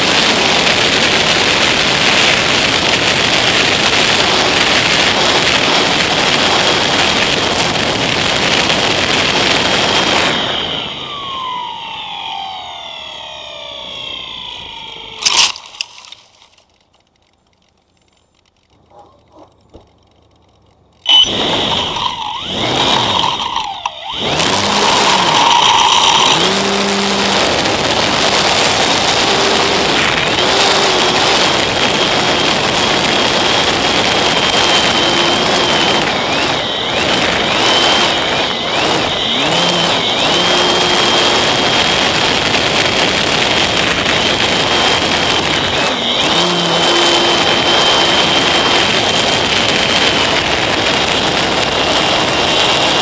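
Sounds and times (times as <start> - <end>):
electric motor and propeller whine: 0.0 - 53.0.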